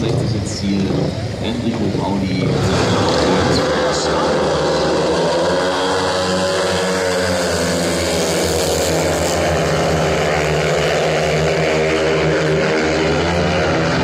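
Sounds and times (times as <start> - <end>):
motorcycles racing: 0.0 - 14.0.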